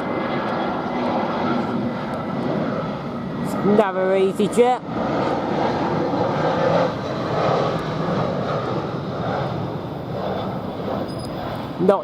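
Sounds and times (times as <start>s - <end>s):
airliner jet noise passing: 0.0s - 12.0s.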